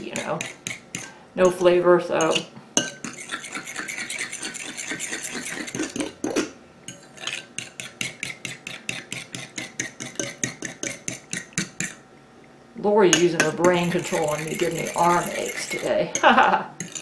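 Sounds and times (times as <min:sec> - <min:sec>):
fork scraping in bowl: 0:00.0 - 0:12.0, 0:13.1 - 0:16.2, 0:16.8 - 0:17.0
fork clinking against bowl: 0:00.1 - 0:12.0, 0:13.1 - 0:17.0.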